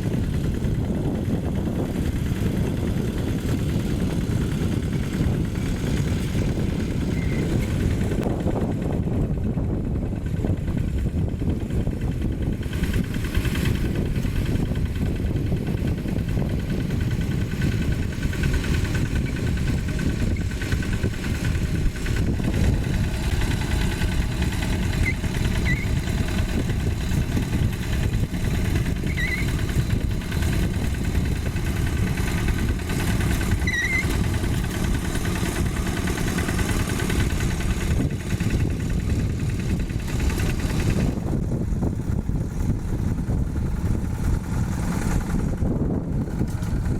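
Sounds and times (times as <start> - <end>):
diesel engine chugging: 0.0 - 46.9.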